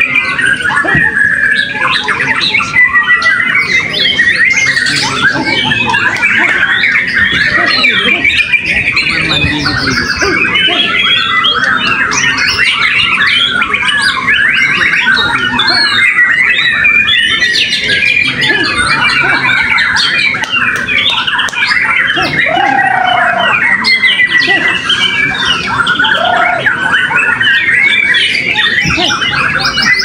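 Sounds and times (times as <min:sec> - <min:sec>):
many birds singing: 0:00.0 - 0:30.0.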